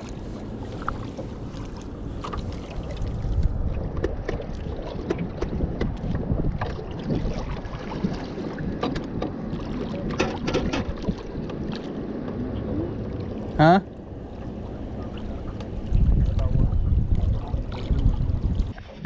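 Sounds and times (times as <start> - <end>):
wind buffeting microphone: 0.0 - 13.5, 14.2 - 19.0.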